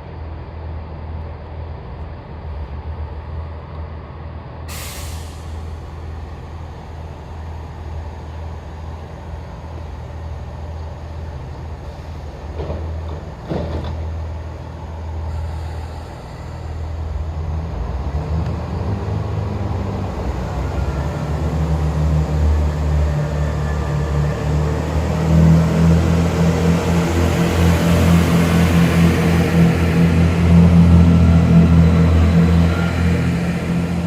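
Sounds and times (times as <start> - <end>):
diesel train engine rumble: 0.0 - 34.0.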